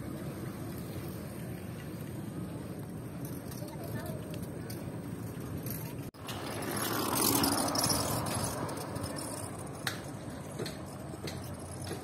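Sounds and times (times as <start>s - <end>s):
steady outdoor noise: 0.0s - 12.0s.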